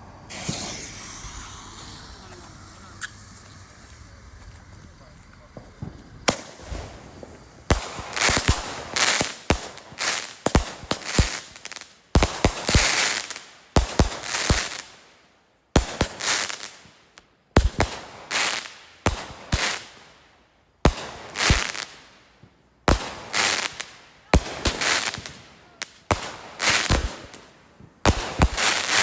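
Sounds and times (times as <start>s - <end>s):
firework pops and bursts: 0.2s - 15.0s, 15.7s - 20.2s, 20.8s - 29.0s.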